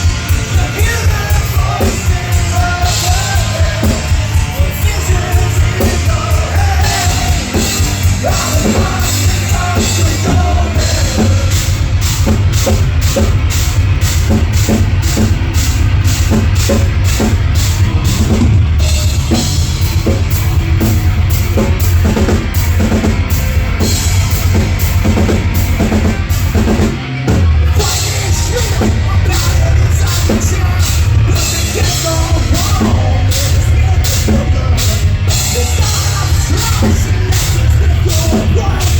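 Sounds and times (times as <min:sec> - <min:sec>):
drum kit driving beat: 0:00.0 - 0:38.9
live rock band playing: 0:00.0 - 0:38.9.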